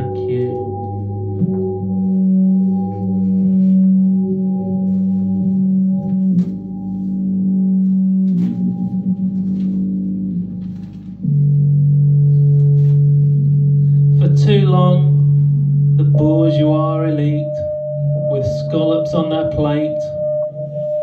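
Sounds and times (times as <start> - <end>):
droning tone with overtones: 0.0 - 21.0.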